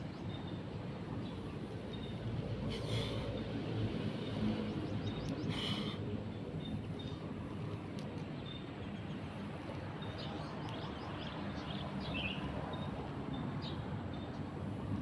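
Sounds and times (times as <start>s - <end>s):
birds chirping: 0.0s - 7.4s, 8.2s - 14.4s
steady background noise: 0.0s - 15.0s.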